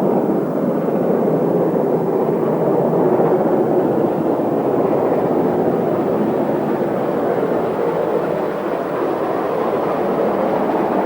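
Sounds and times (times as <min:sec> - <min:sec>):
steam locomotive rumbling: 0:01.6 - 0:11.0.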